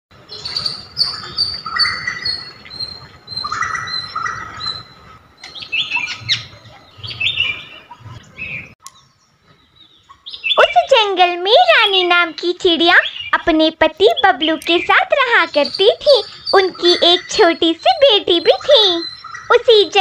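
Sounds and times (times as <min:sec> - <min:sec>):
small bird chirping: 0:00.3 - 0:20.0.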